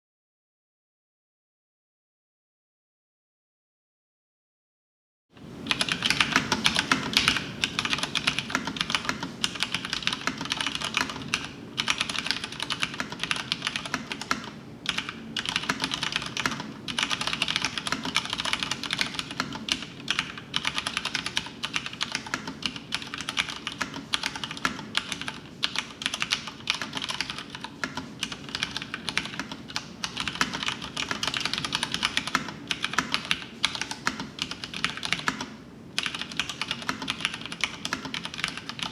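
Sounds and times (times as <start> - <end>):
mechanical keyboard typing: 5.7 - 38.9.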